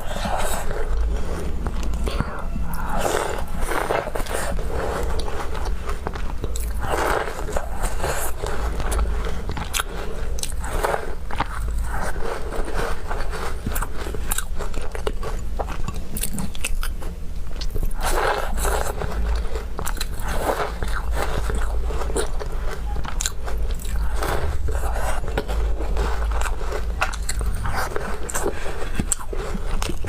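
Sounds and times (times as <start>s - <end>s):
chewing crunchy cookies: 0.0s - 30.0s.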